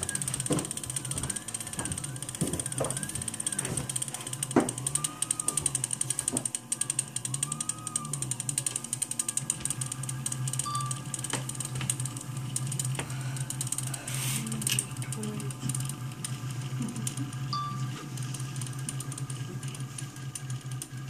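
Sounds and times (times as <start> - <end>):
fine rapid ticking: 0.0 - 21.0
stepper motors whirring: 0.0 - 21.0.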